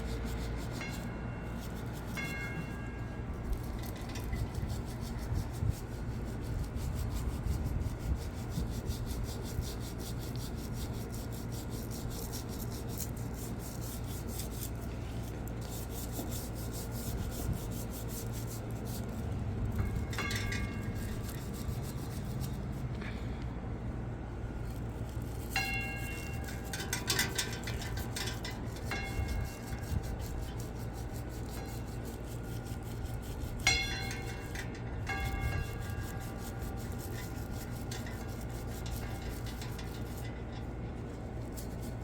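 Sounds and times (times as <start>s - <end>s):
brush scrubbing hard surface: 0.0s - 23.3s, 24.6s - 42.0s.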